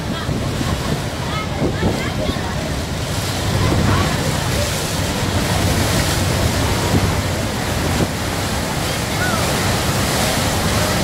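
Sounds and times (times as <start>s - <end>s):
waterfall roaring: 0.0s - 11.0s
wind buffeting microphone: 0.0s - 11.0s.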